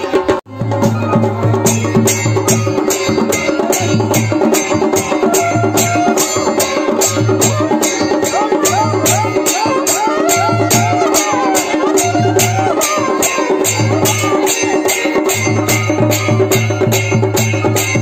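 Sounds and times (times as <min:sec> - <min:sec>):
drum beat: 0:00.0 - 0:18.0.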